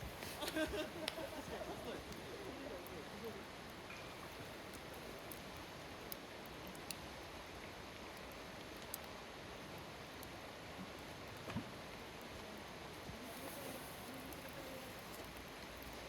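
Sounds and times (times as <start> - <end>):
wood fire hissing and crackling: 0.0 - 16.0.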